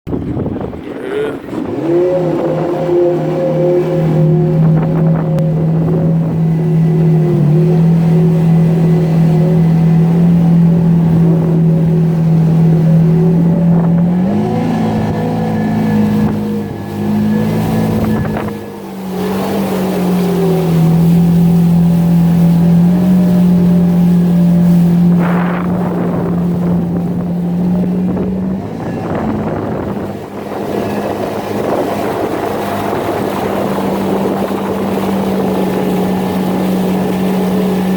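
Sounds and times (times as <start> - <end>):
jet ski engine running: 0.0 - 37.9.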